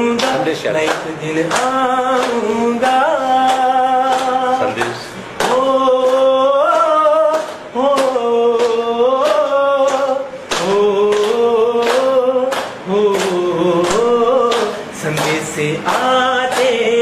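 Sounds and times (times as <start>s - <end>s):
man singing unaccompanied: 0.0s - 17.0s
people clapping in time: 0.0s - 17.0s.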